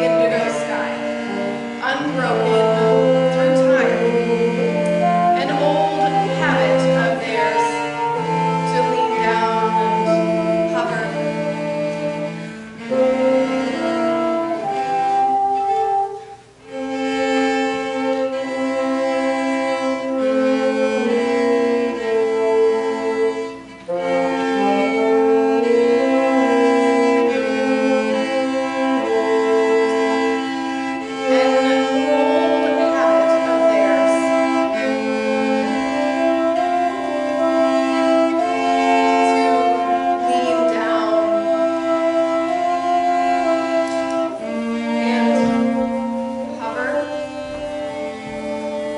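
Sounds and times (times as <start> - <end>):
bassoon: 0.0 - 48.9
cello: 0.0 - 48.9.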